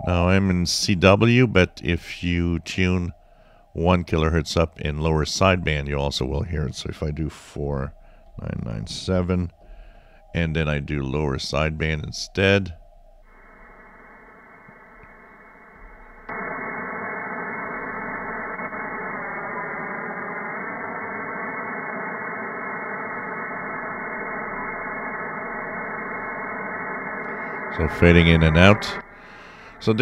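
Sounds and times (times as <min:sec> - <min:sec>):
radio static hiss: 0:00.0 - 0:30.0
steady whistling carrier tones: 0:00.0 - 0:30.0.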